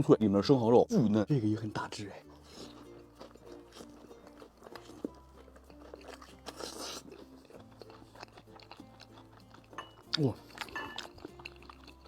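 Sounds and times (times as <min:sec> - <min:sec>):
faint background music: 0:00.0 - 0:12.0
crunchy chewing: 0:02.2 - 0:12.0.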